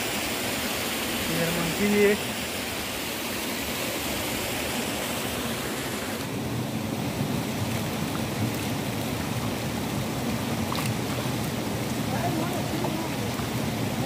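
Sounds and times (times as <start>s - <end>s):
stream water rushing over rocks: 0.0s - 14.0s.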